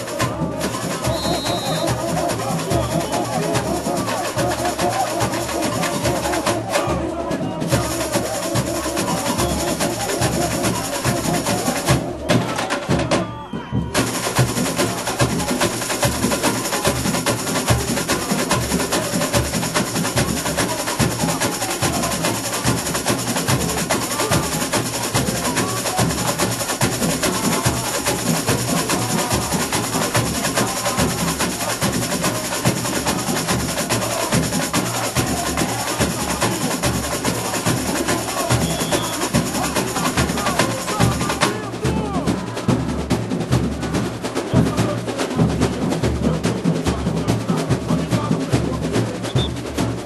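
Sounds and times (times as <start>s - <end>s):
snare and small percussion: 0.0s - 50.0s.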